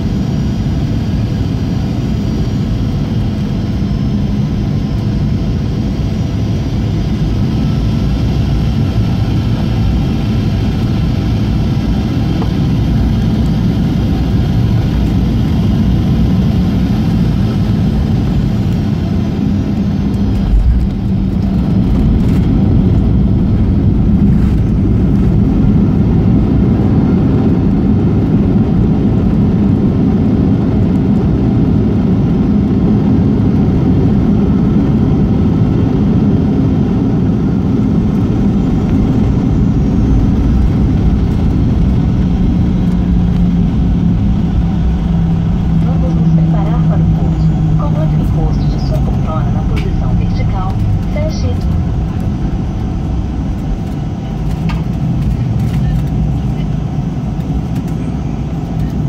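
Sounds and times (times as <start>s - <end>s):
jet engine and airflow roar: 0.0s - 59.0s.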